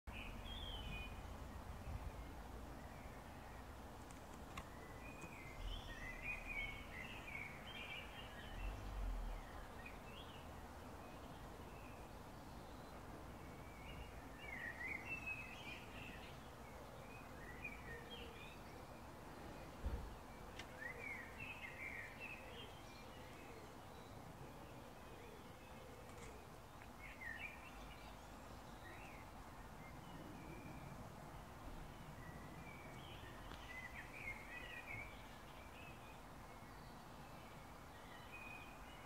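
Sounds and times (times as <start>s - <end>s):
birds twittering: 0.1s - 39.0s
outdoor background hiss: 0.1s - 39.0s.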